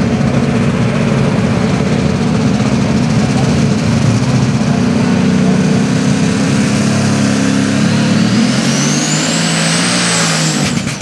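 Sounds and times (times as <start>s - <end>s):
tractor engine revving: 0.0s - 11.0s
turbo whine: 0.0s - 11.0s.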